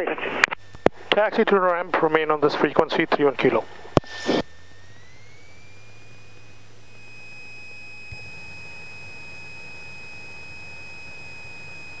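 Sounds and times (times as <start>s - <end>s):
high-pitched engine whine: 0.0s - 12.0s.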